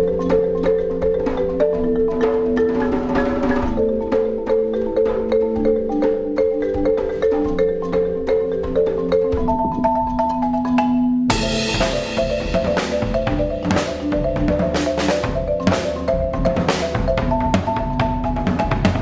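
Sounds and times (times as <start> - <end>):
drums playing: 0.0 - 19.0
marimba playing: 0.0 - 19.0.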